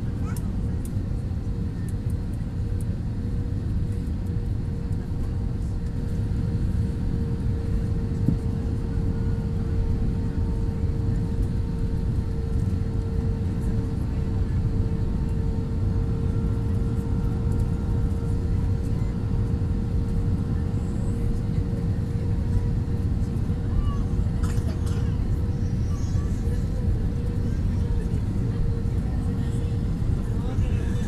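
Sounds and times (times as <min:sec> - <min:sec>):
aircraft cabin engine rumble: 0:00.0 - 0:31.0
constant hum: 0:00.0 - 0:31.0.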